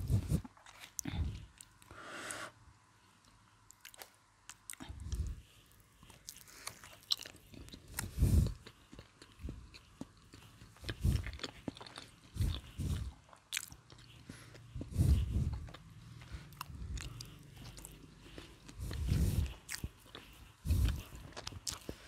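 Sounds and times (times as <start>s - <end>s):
chewing crispy fried chicken: 3.2s - 22.0s.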